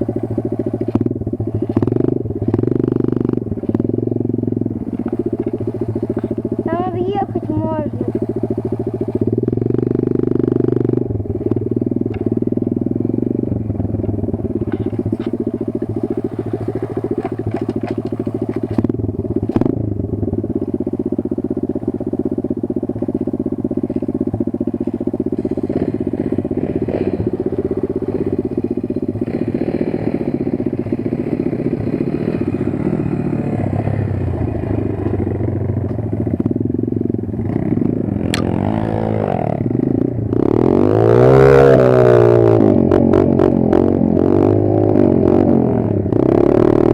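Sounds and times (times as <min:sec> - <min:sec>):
pit bike engine running: 0:00.0 - 0:46.9.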